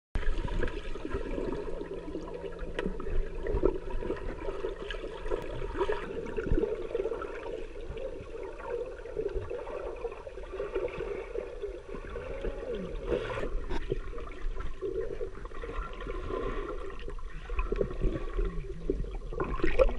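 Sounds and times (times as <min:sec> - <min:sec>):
churning water underwater: 0:00.2 - 0:19.9
crackling bubbles: 0:00.2 - 0:19.9.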